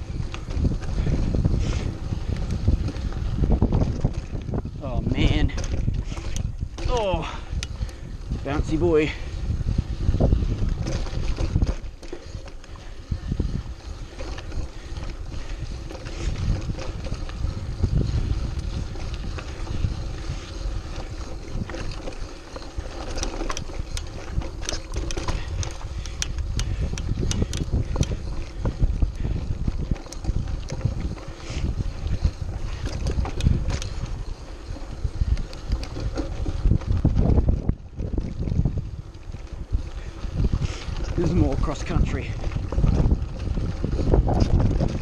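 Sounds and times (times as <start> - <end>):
bike rattling over stones: 0.0 - 45.0
bike tyre noise: 0.0 - 45.0
wind on microphone: 0.0 - 45.0.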